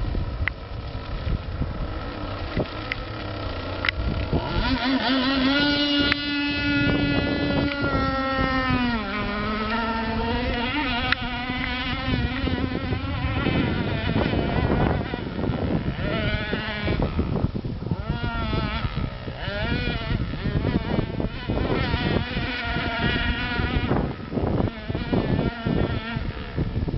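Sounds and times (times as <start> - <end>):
model boat motor whining: 0.0 - 26.9.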